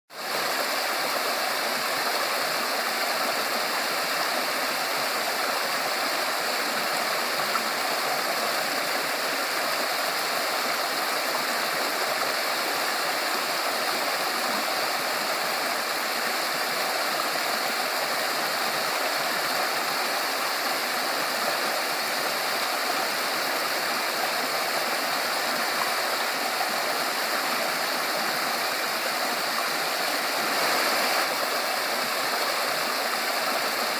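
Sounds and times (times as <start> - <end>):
stream running over rocks: 0.1 - 33.9.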